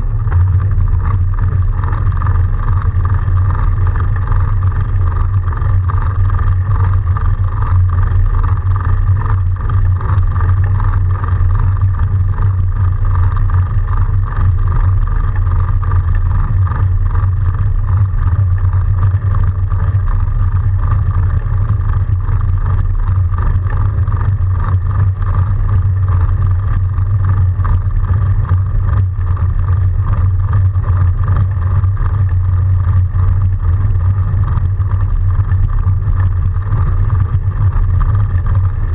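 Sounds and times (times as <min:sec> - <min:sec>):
bike riding through snow: 0:00.0 - 0:11.8, 0:17.9 - 0:38.9.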